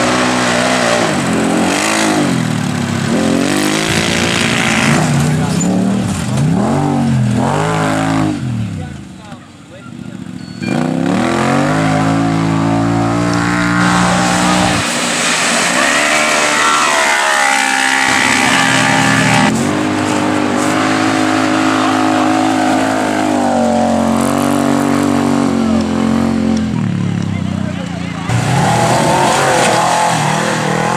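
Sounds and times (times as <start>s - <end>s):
engines revving hard: 0.0s - 9.1s, 10.1s - 30.9s.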